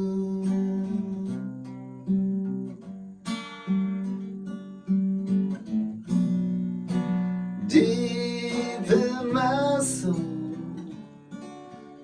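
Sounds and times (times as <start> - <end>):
acoustic guitar chords ringing: 0.0 - 12.0.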